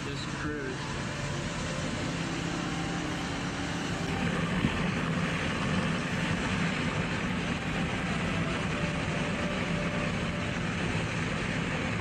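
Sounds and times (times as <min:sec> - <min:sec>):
low engine drone: 0:00.0 - 0:12.0
road noise inside vehicle: 0:00.0 - 0:12.0.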